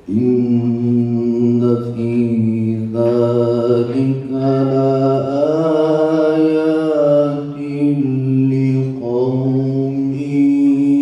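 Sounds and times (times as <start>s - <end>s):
man chanting into a microphone: 0.0s - 11.0s.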